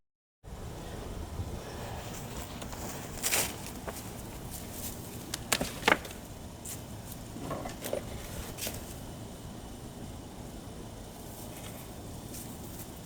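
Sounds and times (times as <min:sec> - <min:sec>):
outdoor background noise: 0:00.4 - 0:13.0.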